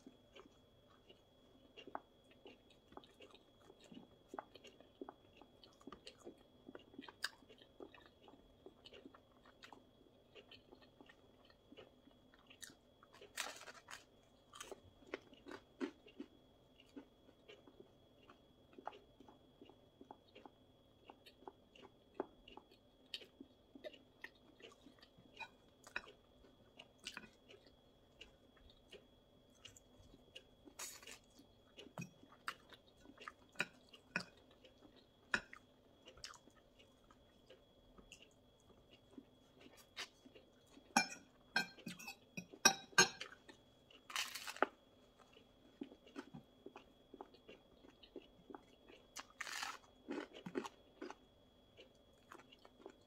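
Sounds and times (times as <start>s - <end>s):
close chewing and crunching: 0.0s - 53.0s.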